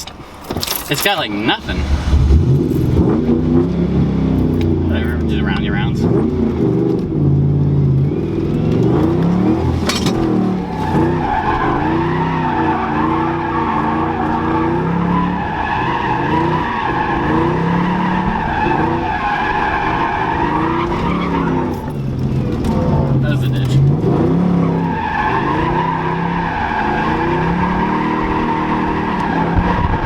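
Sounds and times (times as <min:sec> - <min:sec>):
car engine revving: 0:00.0 - 0:30.0
tires squealing: 0:00.0 - 0:30.0.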